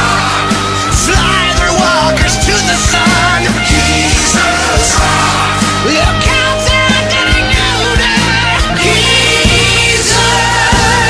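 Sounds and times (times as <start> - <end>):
hard rock music: 0.0 - 11.0.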